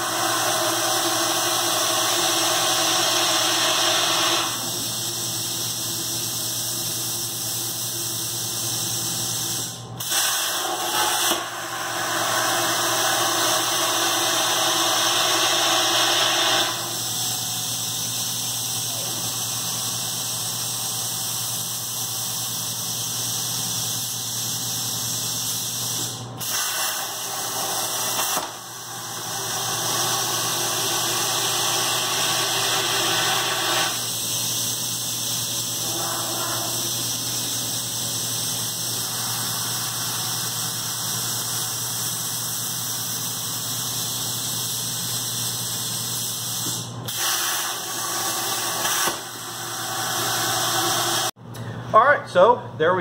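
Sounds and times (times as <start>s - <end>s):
plasma cutter hissing: 0.0s - 51.3s.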